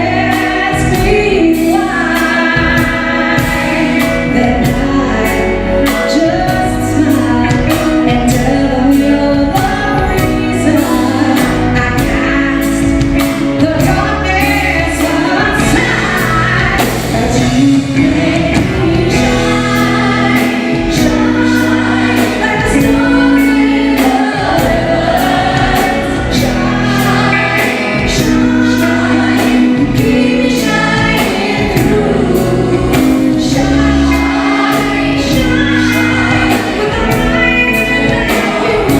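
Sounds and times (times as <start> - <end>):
bass line: 0.0 - 38.9
live band music with singing: 0.0 - 38.9
steady drum beat: 0.0 - 38.9.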